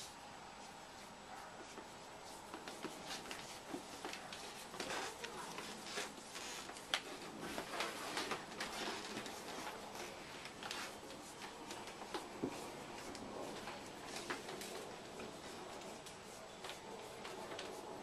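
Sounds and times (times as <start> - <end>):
rustling handling noises: 0.0 - 18.0.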